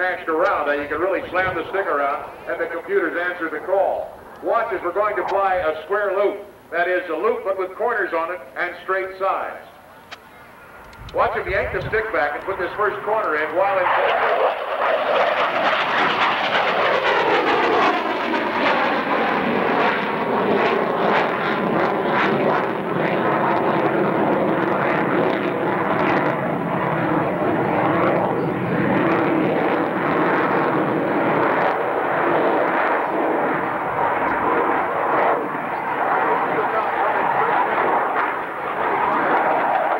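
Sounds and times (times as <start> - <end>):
jet engine noise: 0.0 - 39.9.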